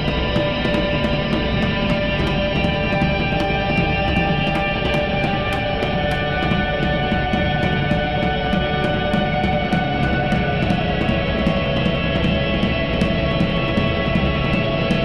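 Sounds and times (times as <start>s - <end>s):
drums ticking: 0.0s - 15.0s
electric guitar drone: 0.0s - 15.0s.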